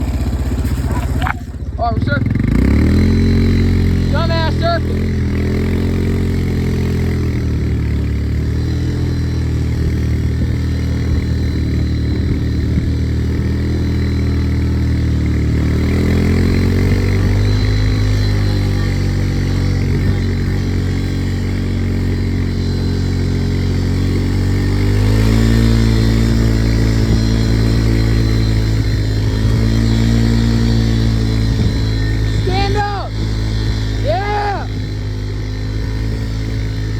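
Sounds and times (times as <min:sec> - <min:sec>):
atv engine revving: 0:00.0 - 0:36.9.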